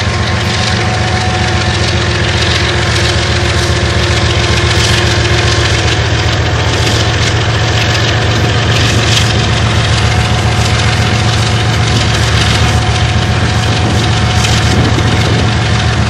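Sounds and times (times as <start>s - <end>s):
locomotive engine throbbing: 0.0s - 16.0s
rushing noise: 0.0s - 16.0s.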